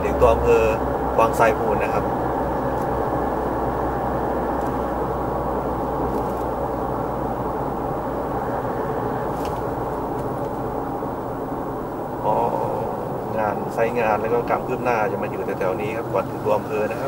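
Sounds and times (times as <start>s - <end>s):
low engine drone: 0.0s - 17.0s
road and tyre noise: 0.0s - 17.0s.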